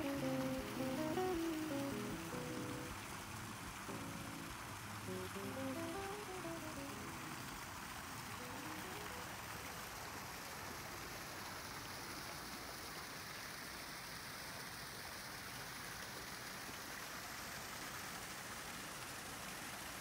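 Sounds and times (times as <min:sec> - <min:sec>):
water rushing and splashing: 0:00.0 - 0:20.0.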